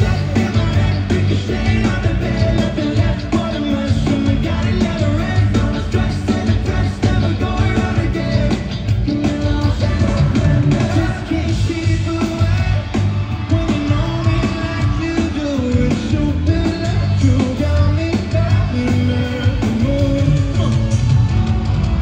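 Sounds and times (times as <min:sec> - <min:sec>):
person singing: 0:00.0 - 0:21.2
bass: 0:00.0 - 0:22.0
drums: 0:00.0 - 0:22.0
electric guitars: 0:00.0 - 0:22.0.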